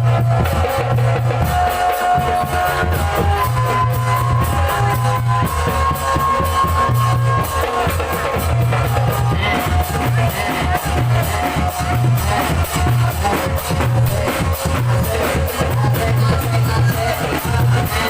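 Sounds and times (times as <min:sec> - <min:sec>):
steady drum beat: 0:00.0 - 0:18.0.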